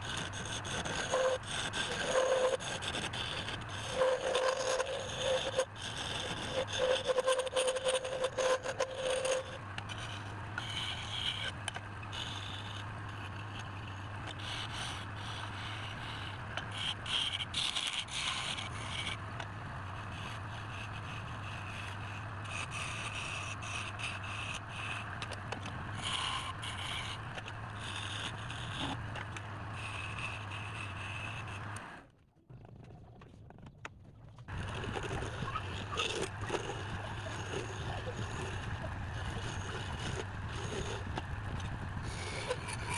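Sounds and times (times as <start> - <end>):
lathe motor hum: 0.0 - 32.0, 34.5 - 42.9
wood scraping on spinning workpiece: 0.0 - 32.0, 34.5 - 42.9.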